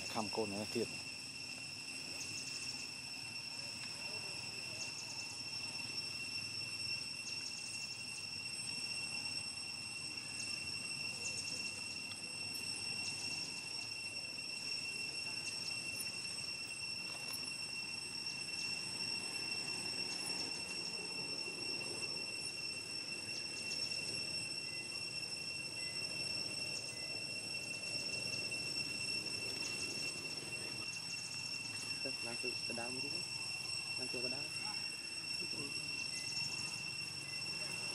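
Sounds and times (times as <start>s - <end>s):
high-pitched insect drone: 0.0s - 37.9s.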